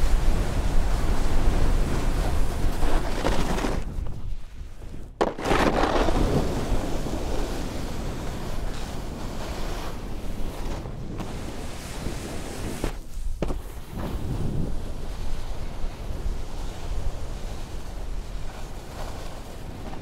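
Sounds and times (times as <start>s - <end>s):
snowboard scraping on snow: 0.0s - 20.0s
wind on microphone: 0.0s - 20.0s.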